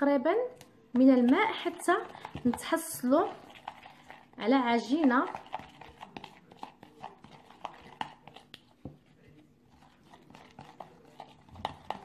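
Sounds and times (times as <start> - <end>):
spoon tapping plastic bowl: 0.6 - 3.9, 4.8 - 12.0.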